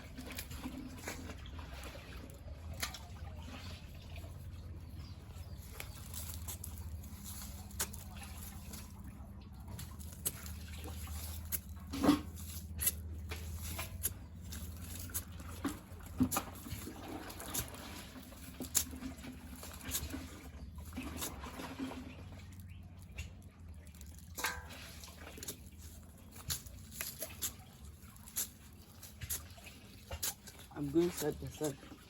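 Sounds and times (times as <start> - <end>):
digging knocks and scrapes in soil: 0.0 - 32.0
low steady rumble: 0.0 - 32.0.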